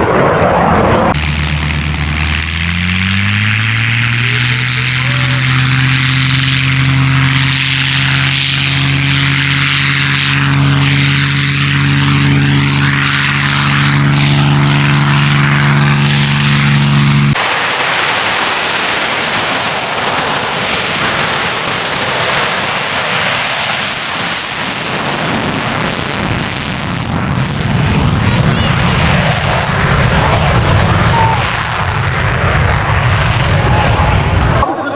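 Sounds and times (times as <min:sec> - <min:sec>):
loud even rushing noise: 0:00.0 - 0:34.9
propeller aircraft engine droning: 0:00.0 - 0:34.9.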